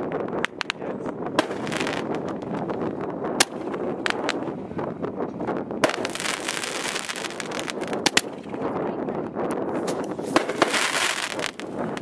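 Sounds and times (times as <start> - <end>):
crackling hiss: 0.0 - 5.0, 5.7 - 8.7, 9.7 - 12.0
fireworks bangs: 0.2 - 8.8, 9.6 - 12.0.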